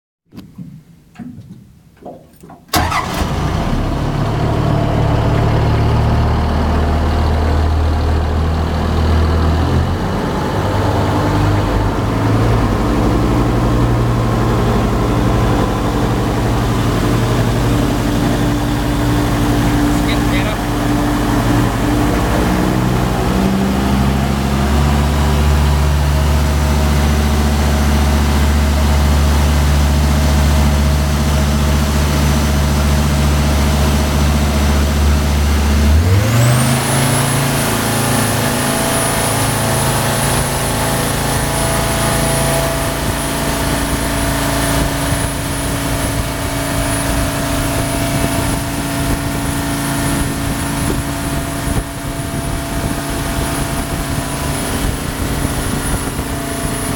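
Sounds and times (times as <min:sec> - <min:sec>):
boat engine revving: 0:01.2 - 0:56.9.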